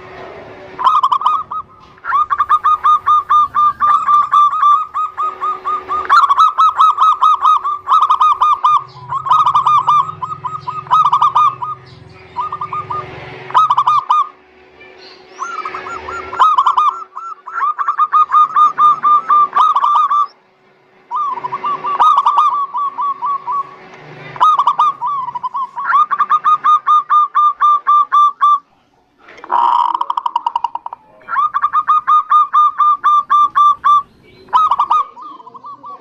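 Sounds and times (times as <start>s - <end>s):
doves cooing: 0.0s - 14.4s, 15.2s - 20.4s, 21.1s - 36.0s
faint steady hum: 0.0s - 36.0s.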